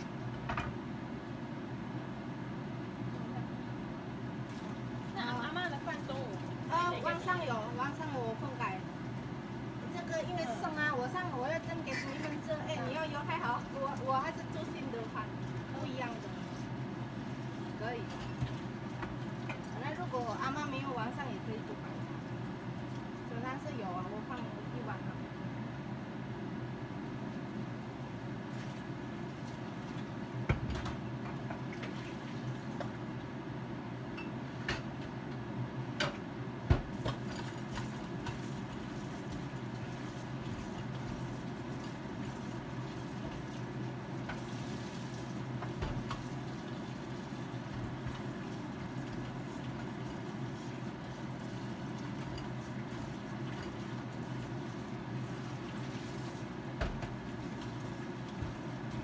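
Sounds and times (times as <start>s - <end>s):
kitchen hum: 0.0s - 59.0s.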